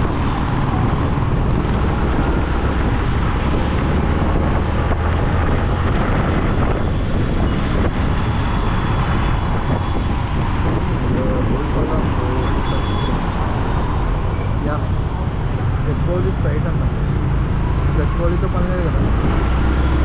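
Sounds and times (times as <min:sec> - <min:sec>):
road noise: 0:00.0 - 0:20.0
wind rushing over microphone: 0:00.0 - 0:20.0.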